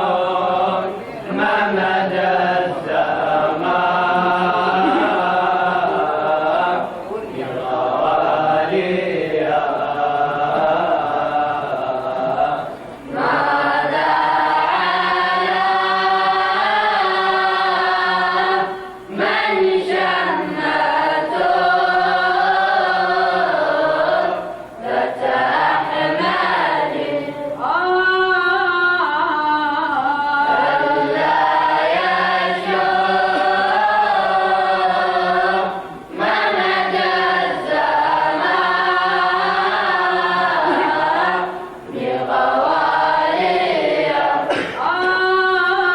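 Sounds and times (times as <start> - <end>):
vocal group chanting: 0.0 - 45.9.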